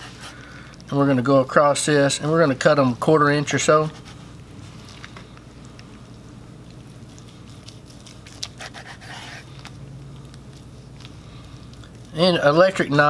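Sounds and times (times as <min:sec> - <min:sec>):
knife cutting meat squishing: 0:00.0 - 0:01.0, 0:03.5 - 0:13.0
crust crackling: 0:00.0 - 0:13.0.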